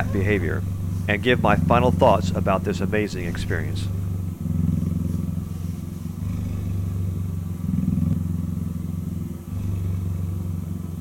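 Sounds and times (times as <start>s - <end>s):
cheetah purring: 0.0s - 11.0s.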